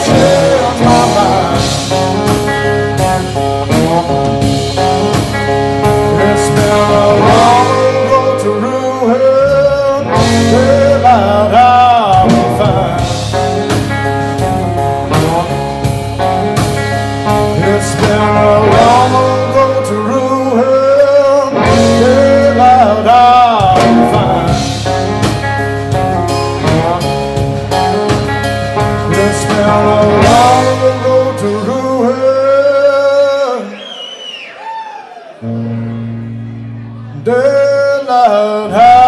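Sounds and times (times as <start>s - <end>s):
steady bass: 0.0s - 33.2s
lead guitar bending notes: 0.0s - 33.3s, 35.4s - 39.0s
blues-rock band playing: 0.0s - 33.8s, 35.4s - 39.0s.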